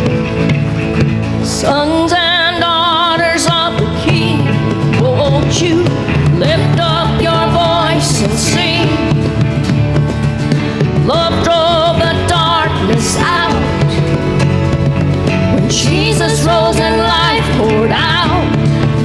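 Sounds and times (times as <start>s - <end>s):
worship band music: 0.0s - 19.0s.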